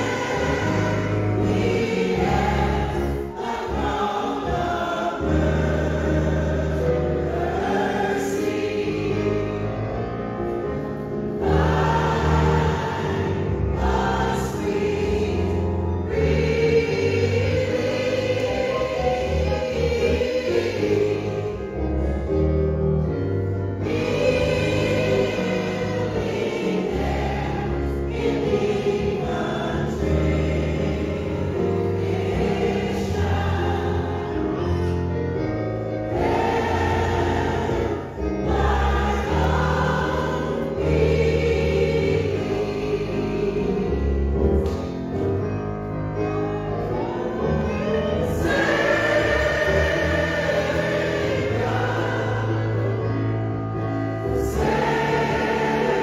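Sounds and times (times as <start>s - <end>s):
gospel choir singing: 0.0s - 56.0s.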